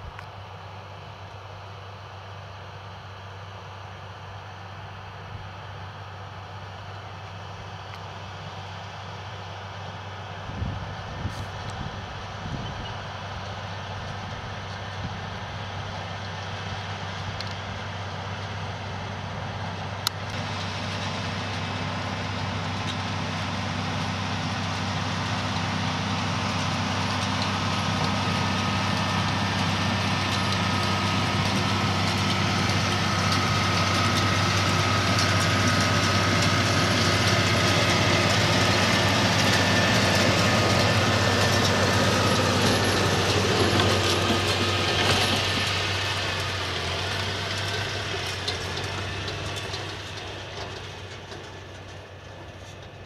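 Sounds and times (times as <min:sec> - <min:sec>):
tractor diesel engine: 0:00.0 - 0:53.0.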